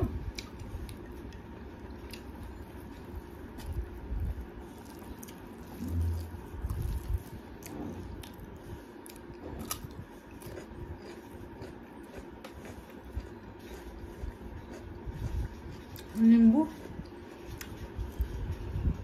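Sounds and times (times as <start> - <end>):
chewing: 0.3 - 18.4.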